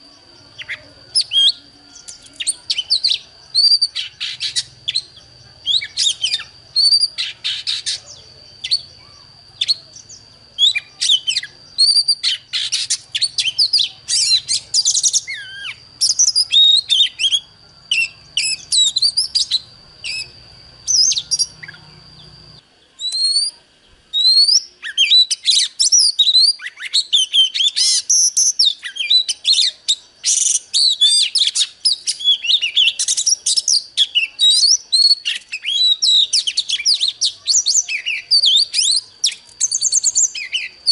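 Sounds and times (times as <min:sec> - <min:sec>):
steady high whine: 0:00.0 - 0:35.6
bird singing whistles and trills: 0:00.0 - 0:40.9.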